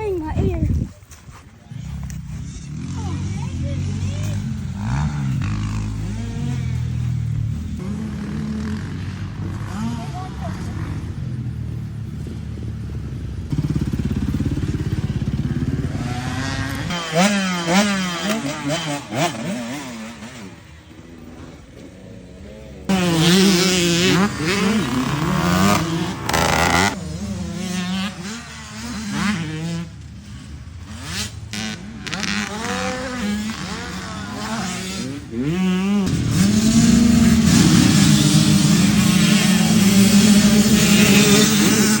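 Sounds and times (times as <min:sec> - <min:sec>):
dirt bike engine revving: 0:01.7 - 0:42.0.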